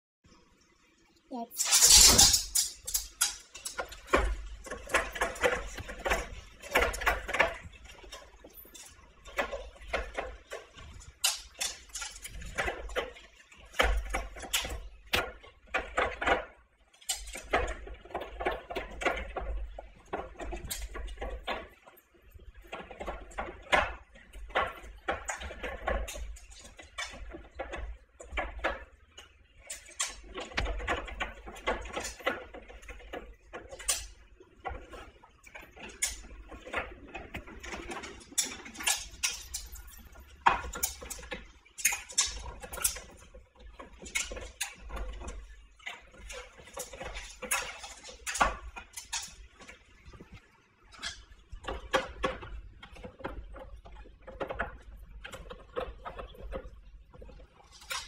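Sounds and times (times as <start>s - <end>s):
dog eating from plastic bowl: 3.5s - 16.4s, 17.1s - 58.0s.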